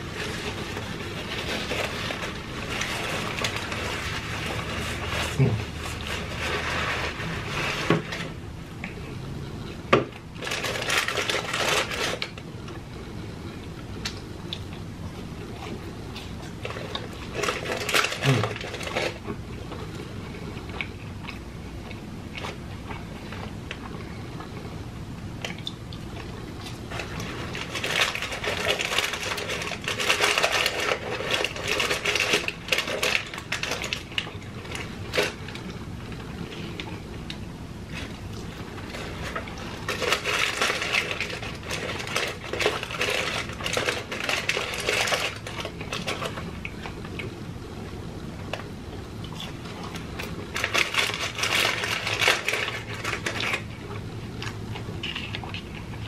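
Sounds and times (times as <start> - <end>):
chewing crunchy fried food: 8.8 - 56.0.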